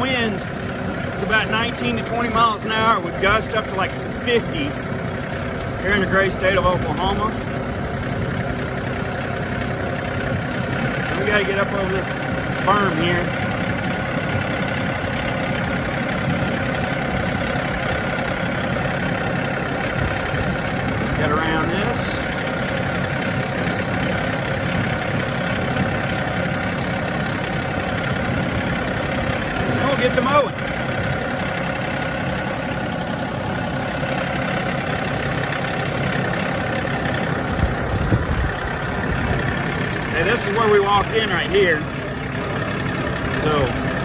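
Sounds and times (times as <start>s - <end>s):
diesel tractor engine running: 0.0s - 44.0s.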